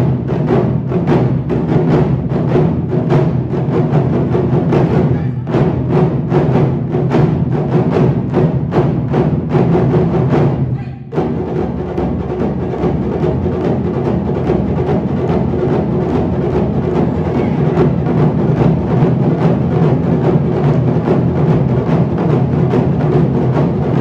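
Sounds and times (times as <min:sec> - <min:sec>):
taiko drums struck in unison: 0:00.0 - 0:24.0.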